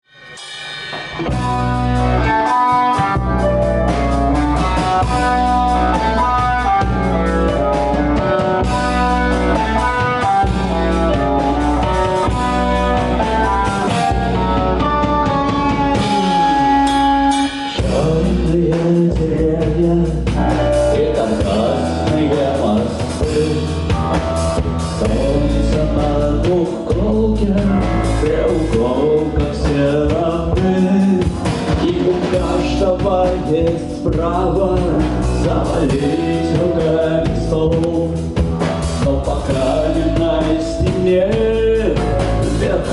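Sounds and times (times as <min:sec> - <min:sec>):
rock band playing: 0:00.0 - 0:42.9
lead melody: 0:00.3 - 0:42.9.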